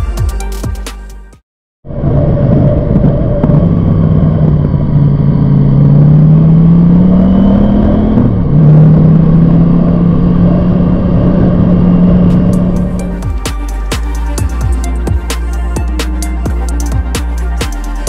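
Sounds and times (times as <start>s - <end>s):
motorcycle engine accelerating: 1.9s - 18.0s.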